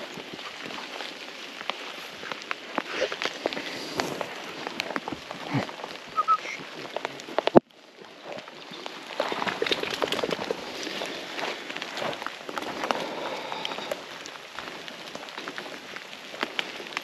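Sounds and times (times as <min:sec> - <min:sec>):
twigs snapping: 0:00.0 - 0:07.6, 0:08.2 - 0:17.0
footsteps through dry scrub: 0:00.0 - 0:17.0.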